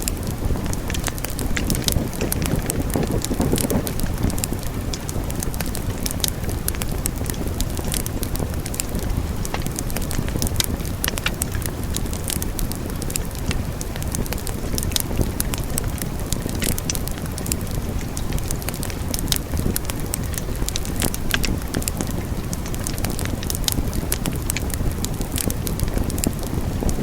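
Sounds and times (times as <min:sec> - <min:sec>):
burning logs crackling and popping: 0:00.0 - 0:27.0
wood fire rumbling: 0:00.0 - 0:27.0.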